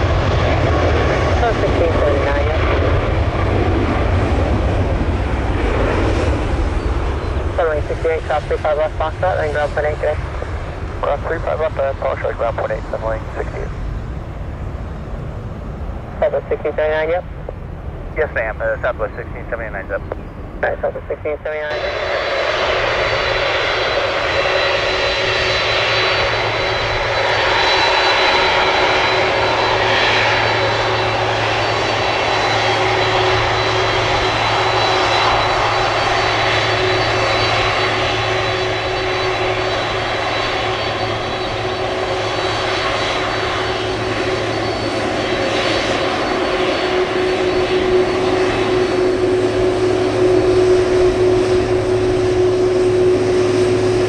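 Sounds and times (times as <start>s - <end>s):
jet engines roaring and whining: 0.0s - 54.0s.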